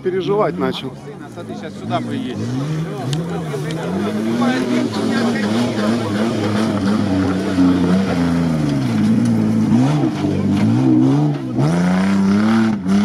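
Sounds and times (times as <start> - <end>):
pickup engine revving: 0.3 - 13.0.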